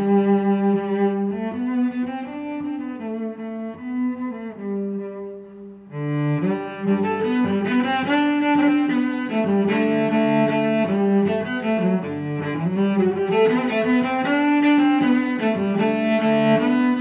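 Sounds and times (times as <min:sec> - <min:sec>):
instrumental music with held notes: 0:00.0 - 0:17.0.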